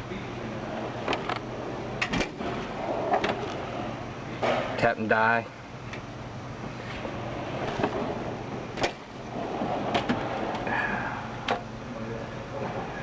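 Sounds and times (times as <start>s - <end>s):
workshop background noise: 0.0s - 13.0s.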